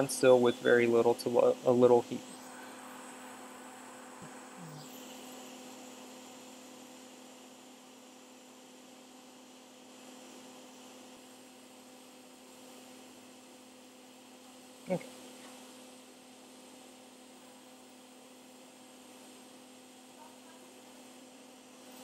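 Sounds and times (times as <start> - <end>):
hot air rework station blowing: 0.0 - 20.1.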